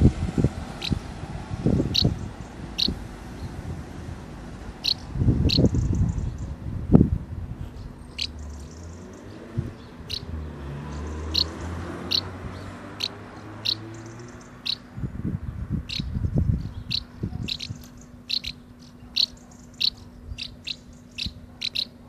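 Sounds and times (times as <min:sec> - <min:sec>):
birds chirping: 0:00.0 - 0:22.0
low gusts: 0:00.0 - 0:22.0.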